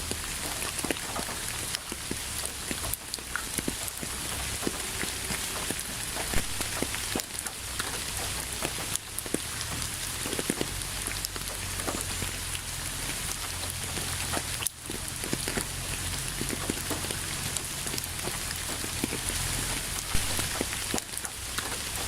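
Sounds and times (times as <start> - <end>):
raindrops pattering: 0.0 - 22.0
steady rain hiss: 0.0 - 22.0.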